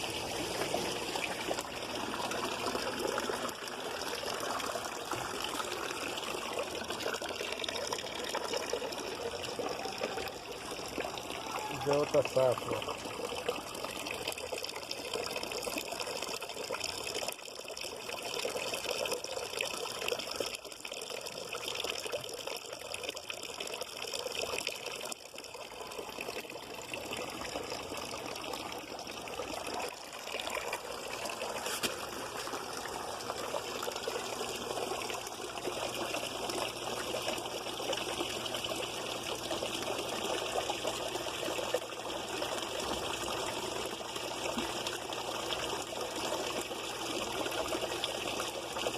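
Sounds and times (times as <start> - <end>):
water trickling and splashing: 0.0 - 48.9.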